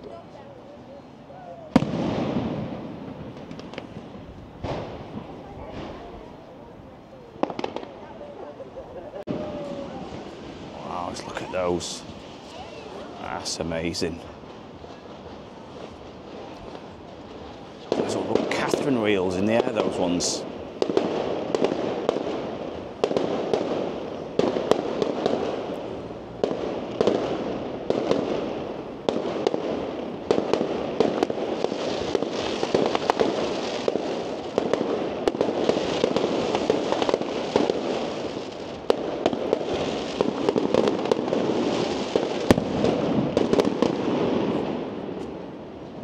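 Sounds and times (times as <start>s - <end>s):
fireworks crackling bursts: 0.0s - 46.0s
fireworks bangs: 1.3s - 46.0s.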